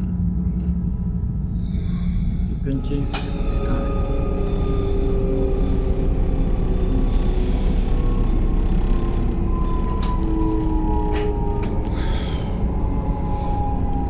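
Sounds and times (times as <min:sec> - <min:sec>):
electric train rumbling: 0:00.0 - 0:14.0
faint rising whine: 0:00.0 - 0:14.0.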